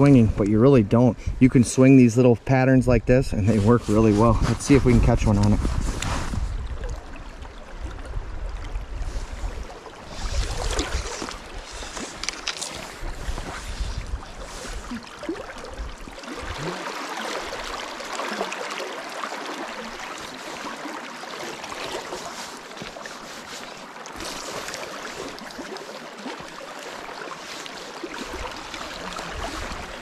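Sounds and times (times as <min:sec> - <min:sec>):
river water running: 0:00.0 - 0:30.0.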